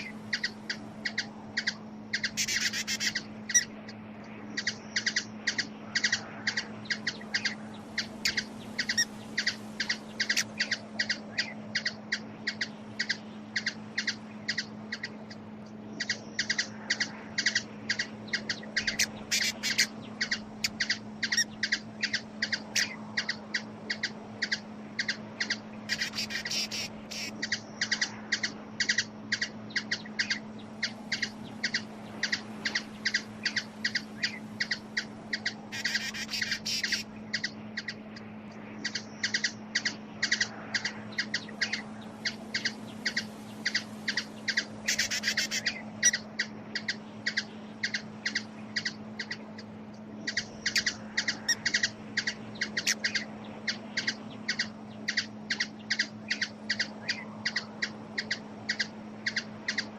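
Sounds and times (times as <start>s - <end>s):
hummingbird chip calls: 0.0s - 59.9s
steady low hum: 0.0s - 59.9s.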